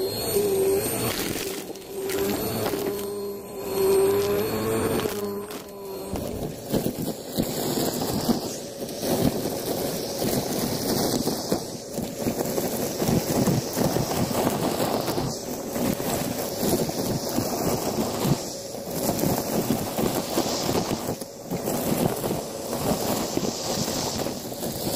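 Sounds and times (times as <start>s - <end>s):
debris rattling up hose: 0.0s - 24.9s
vacuum cleaner air rushing: 0.0s - 24.9s.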